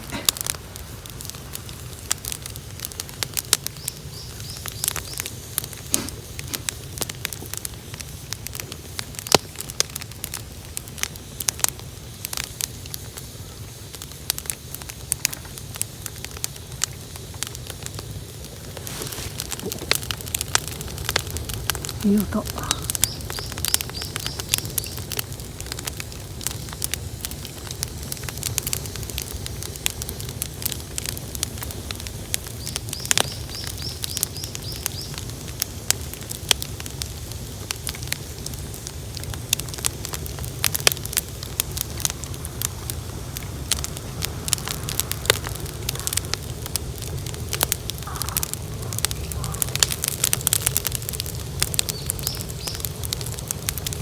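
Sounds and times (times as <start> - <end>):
bonfire crackling: 0.0 - 54.0
low rumble of burning: 0.0 - 54.0.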